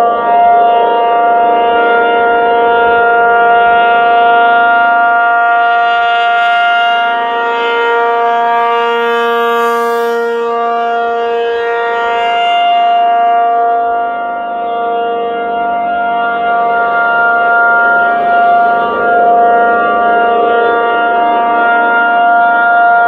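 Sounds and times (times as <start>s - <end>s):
rotating siren two-tone alert: 0.0s - 23.0s.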